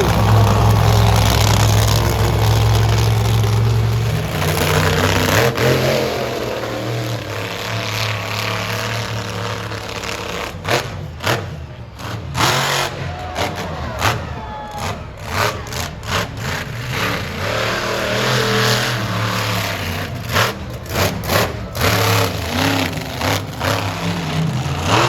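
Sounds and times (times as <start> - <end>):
monster truck engine running: 0.0 - 25.0.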